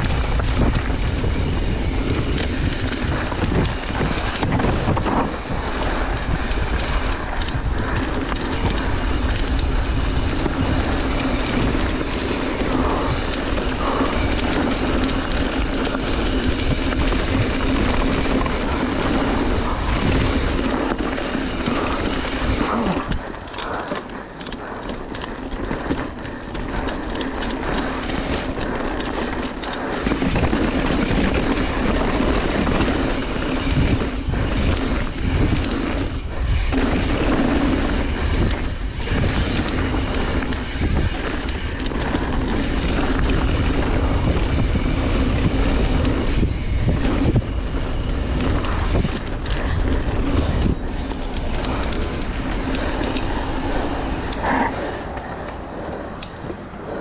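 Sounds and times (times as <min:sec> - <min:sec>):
bike rattling and knocking: 0:00.0 - 0:56.7
tyre roar on dirt: 0:00.0 - 0:57.0
wind rushing over microphone: 0:00.0 - 0:57.0.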